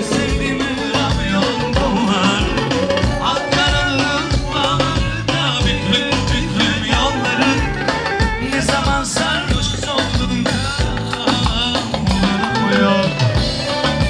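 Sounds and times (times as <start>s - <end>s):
upbeat music with wavering melody: 0.0s - 14.0s.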